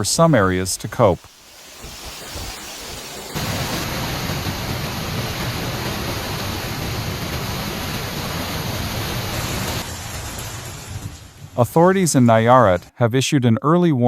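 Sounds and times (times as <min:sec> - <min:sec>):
pouring rain: 0:00.0 - 0:12.8
wind: 0:00.0 - 0:14.0.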